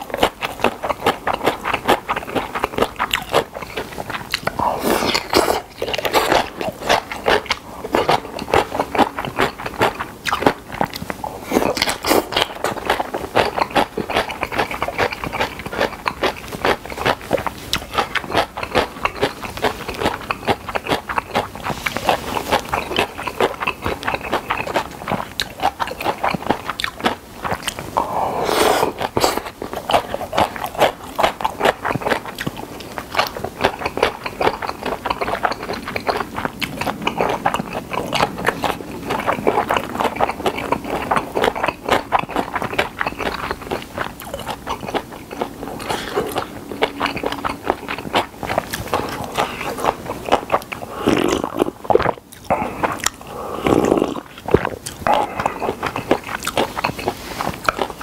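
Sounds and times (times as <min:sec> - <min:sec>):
wet chewing and smacking: 0:00.0 - 0:58.0.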